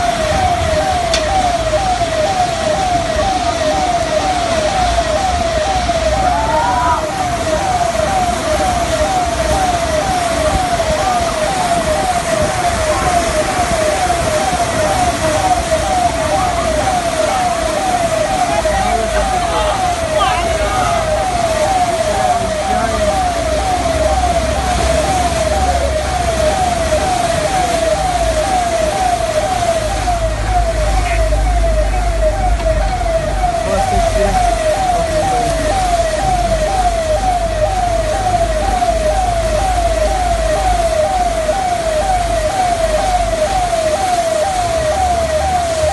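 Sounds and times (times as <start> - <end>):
electronic siren falling tone: 0.0 - 45.9
floodwater rushing: 0.0 - 45.9.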